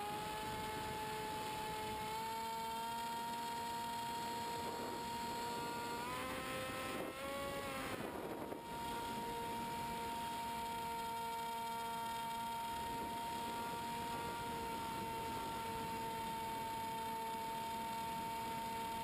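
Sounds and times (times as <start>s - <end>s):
model plane motor whine: 0.0s - 19.0s.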